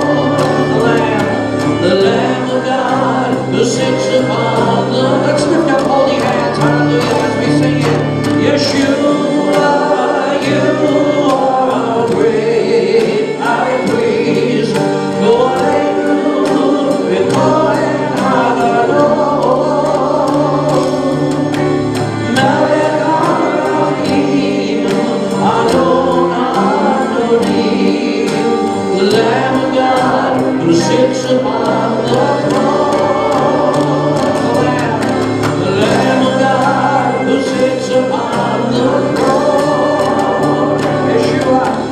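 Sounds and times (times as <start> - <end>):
band playing a steady beat: 0.0 - 41.9
choir singing: 0.0 - 41.9.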